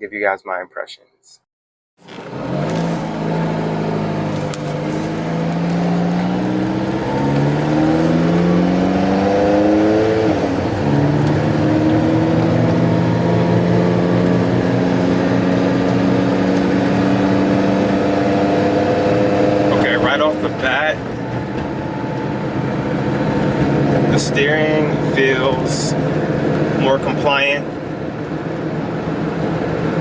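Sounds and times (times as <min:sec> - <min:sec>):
car engine pulling away: 0:02.0 - 0:30.0.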